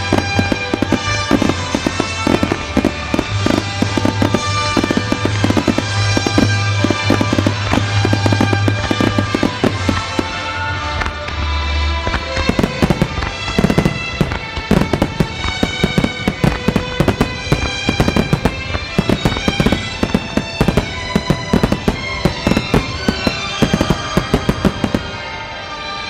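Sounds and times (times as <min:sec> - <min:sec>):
fireworks bangs and crackles: 0:00.0 - 0:26.0
music with sustained melodic tones: 0:00.0 - 0:26.0.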